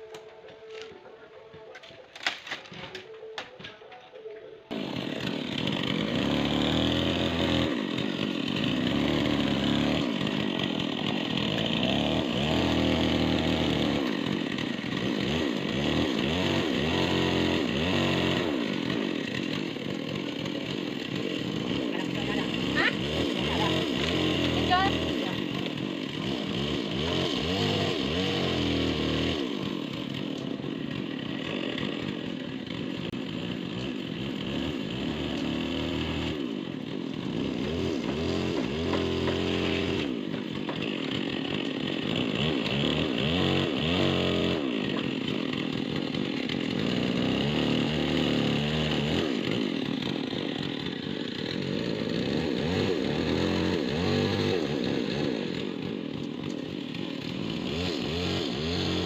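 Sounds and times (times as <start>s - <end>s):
chainsaw cutting tree: 0.0s - 3.4s, 4.7s - 59.0s.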